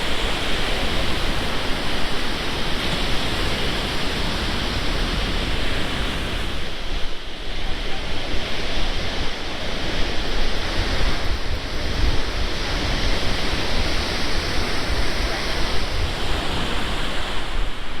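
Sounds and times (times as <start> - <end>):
sea surf washing on shore: 0.0 - 18.0
wind buffeting microphone: 0.0 - 18.0.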